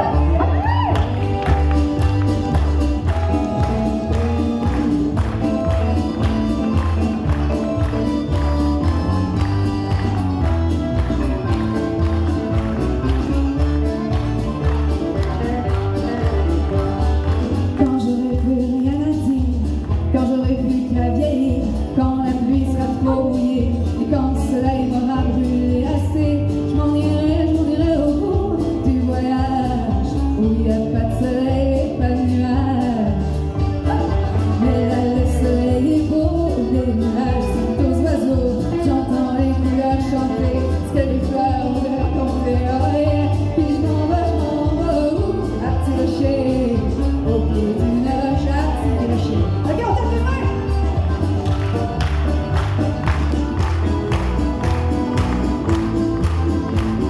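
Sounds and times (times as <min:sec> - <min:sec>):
backing music with bass beat: 0:00.0 - 0:21.9, 0:26.3 - 0:57.0
woman singing country song: 0:00.0 - 0:51.5.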